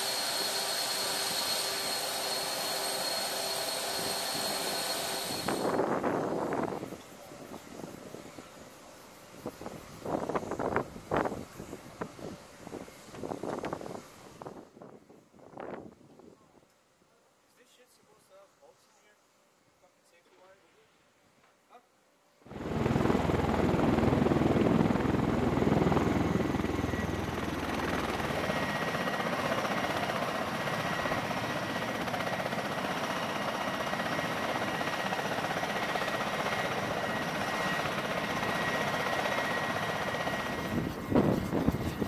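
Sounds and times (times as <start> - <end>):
aircraft rotor and turbine noise: 0.0 - 16.3, 22.4 - 42.0.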